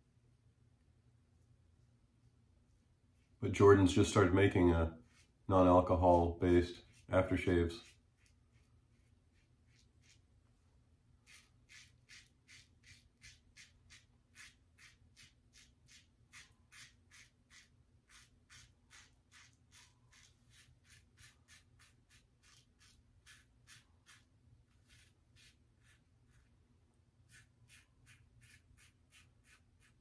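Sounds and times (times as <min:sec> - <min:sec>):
razor scraping stubble: 0:03.6 - 0:10.3, 0:11.2 - 0:26.5, 0:27.2 - 0:30.0.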